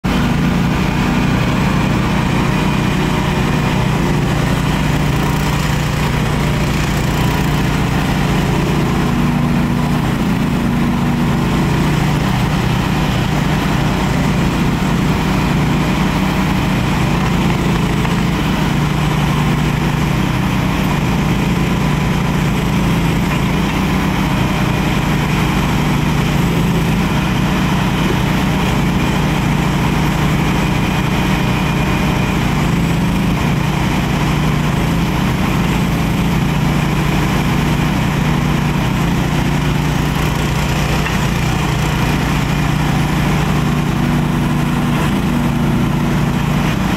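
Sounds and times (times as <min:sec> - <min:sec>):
excavator engine running: 0:00.0 - 0:46.9.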